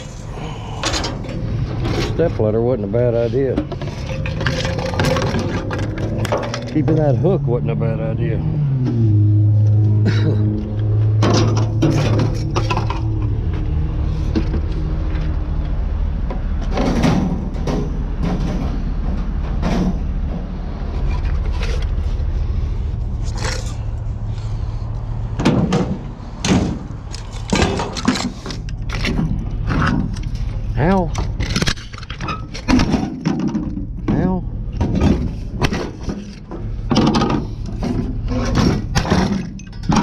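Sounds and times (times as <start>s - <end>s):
junk knocking and scraping: 0.0s - 40.0s
low steady rumble: 0.0s - 40.0s.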